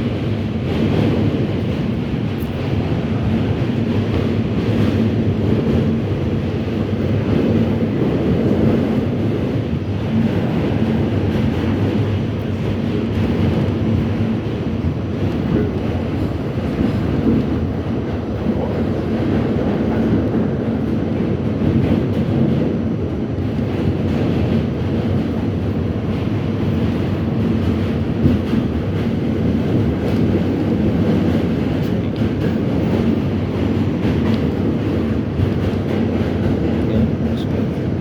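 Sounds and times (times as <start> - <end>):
subway train rumbling: 0.0 - 38.0.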